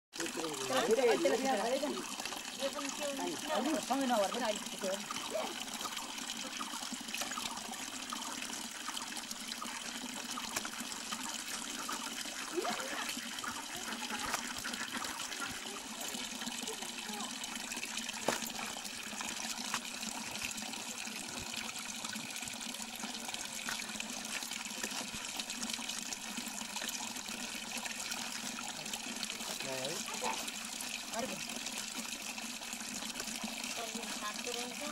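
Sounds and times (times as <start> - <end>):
water pouring from spout: 0.1 - 34.9.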